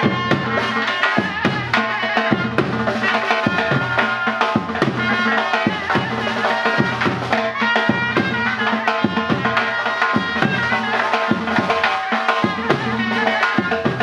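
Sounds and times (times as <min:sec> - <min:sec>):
shawm playing piercing melody: 0:00.0 - 0:14.0
steady drum beat: 0:00.0 - 0:14.0.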